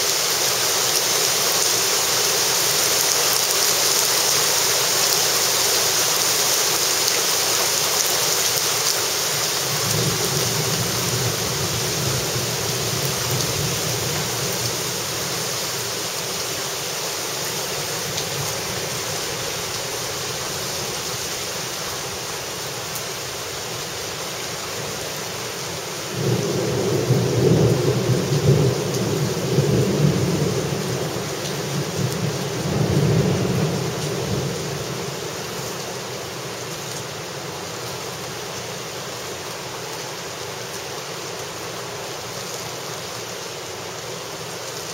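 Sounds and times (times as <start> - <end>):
heavy rain hissing: 0.0 - 44.9.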